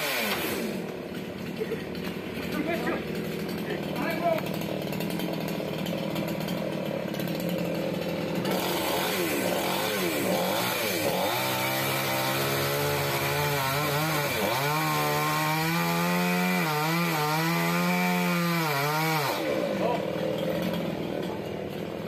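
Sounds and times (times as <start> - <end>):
chainsaw cutting branch: 0.0 - 22.0.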